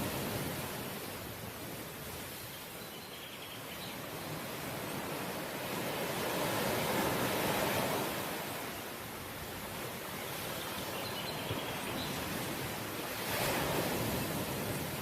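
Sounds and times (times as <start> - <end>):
sea waves breaking on shore: 0.0 - 15.0.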